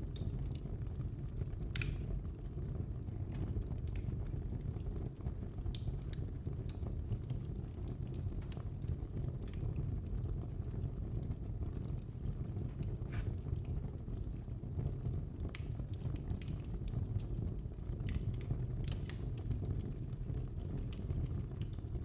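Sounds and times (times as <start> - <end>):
fire burning in fireplace: 0.0 - 22.0.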